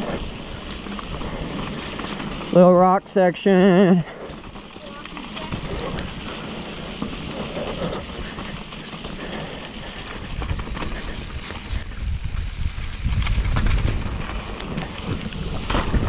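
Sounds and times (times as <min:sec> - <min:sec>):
mountain bike rattling over rocks: 0:00.0 - 0:16.0.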